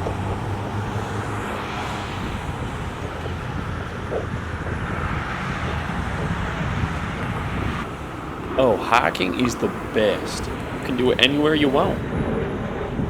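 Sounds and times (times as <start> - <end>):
low rumble with hiss: 0.0 - 12.1.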